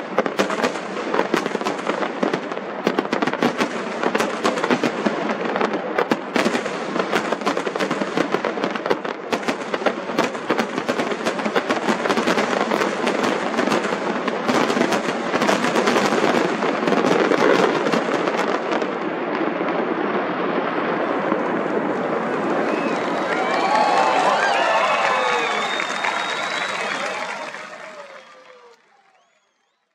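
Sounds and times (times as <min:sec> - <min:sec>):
firework crackles: 0:00.0 - 0:29.8.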